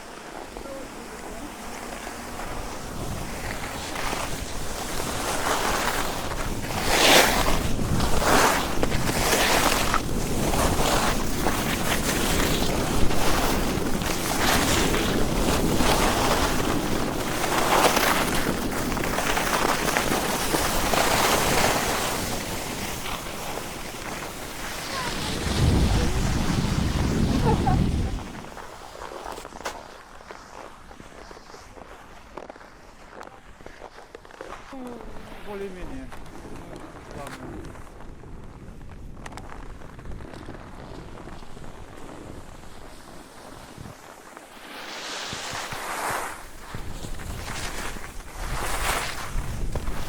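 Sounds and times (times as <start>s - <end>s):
skis scraping over packed snow: 0.0s - 50.0s.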